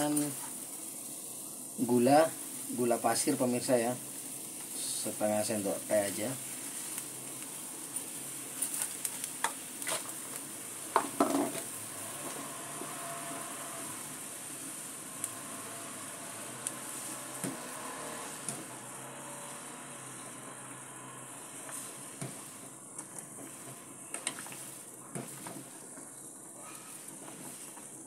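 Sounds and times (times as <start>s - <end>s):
soup boiling in a pot: 0.0s - 28.0s.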